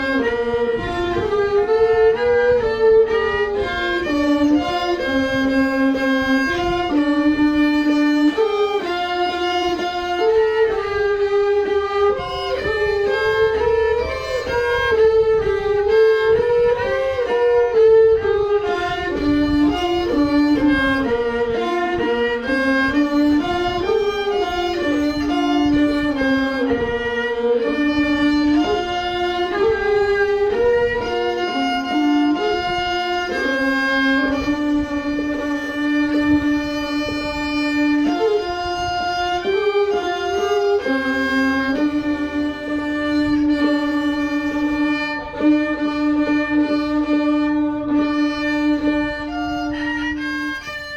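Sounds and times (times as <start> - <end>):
violin slow melody: 0.0 - 50.9.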